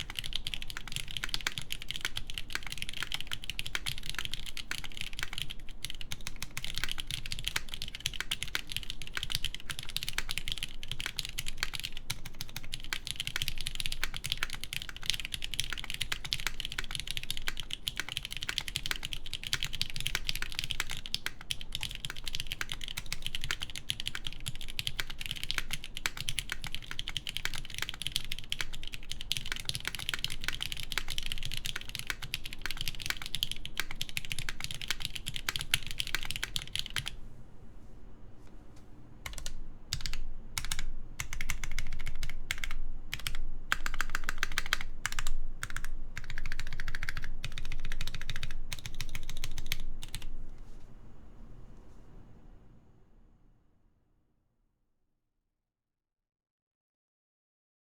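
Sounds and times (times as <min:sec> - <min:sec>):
fast typing on mechanical keyboard: 0:00.0 - 0:37.2, 0:39.2 - 0:50.3.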